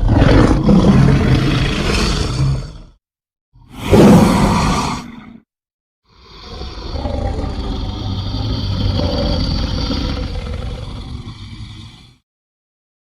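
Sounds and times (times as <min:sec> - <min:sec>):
low rumbling monster growl: 0:00.0 - 0:03.0, 0:03.6 - 0:05.4, 0:06.1 - 0:12.2.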